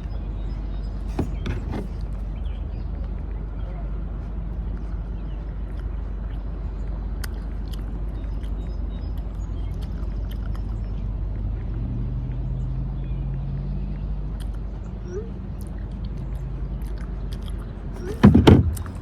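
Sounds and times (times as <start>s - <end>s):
engine hum: 0.0s - 19.0s
traffic rumble: 0.0s - 19.0s.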